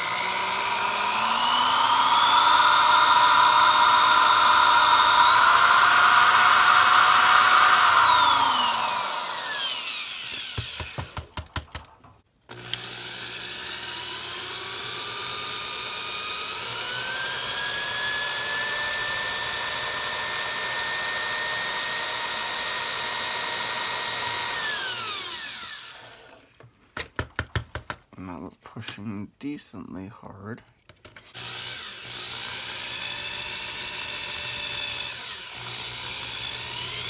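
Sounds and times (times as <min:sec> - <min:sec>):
power drill drilling: 0:00.0 - 0:11.4, 0:12.5 - 0:26.4, 0:31.3 - 0:37.0.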